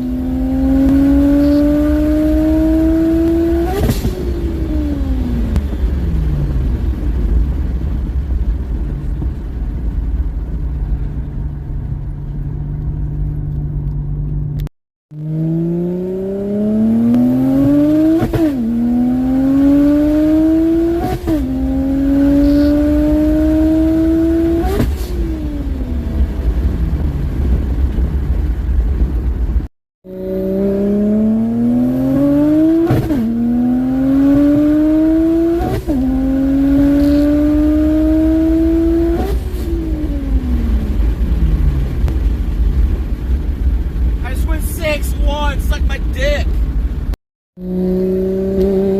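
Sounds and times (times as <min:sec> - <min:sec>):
turbo car engine revving: 0:00.0 - 0:09.3, 0:12.6 - 0:44.2, 0:46.4 - 0:48.9.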